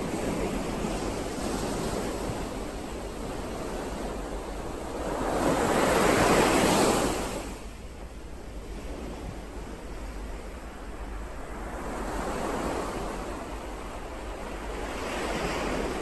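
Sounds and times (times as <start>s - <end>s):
ocean waves crashing: 0.0s - 16.0s.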